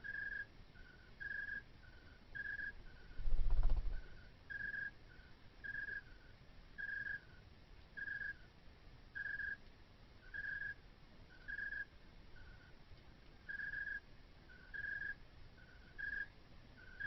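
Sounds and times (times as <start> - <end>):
repeated chirping call: 0.0 - 7.4, 8.0 - 8.4, 9.2 - 9.6, 10.2 - 12.7, 13.5 - 17.0
faint low hum: 0.0 - 17.0.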